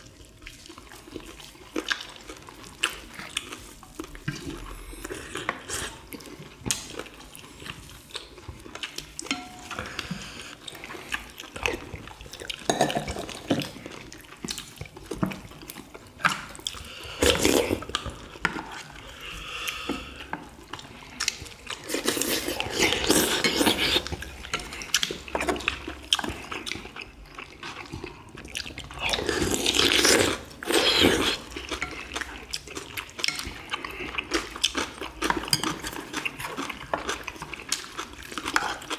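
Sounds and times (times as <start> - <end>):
people chewing: 0.0 - 38.9.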